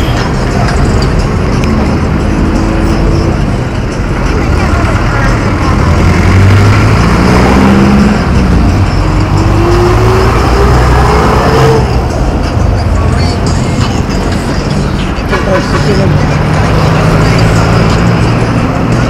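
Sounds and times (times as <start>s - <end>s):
vehicle engine speeding up: 0.5s - 13.4s, 15.7s - 19.0s.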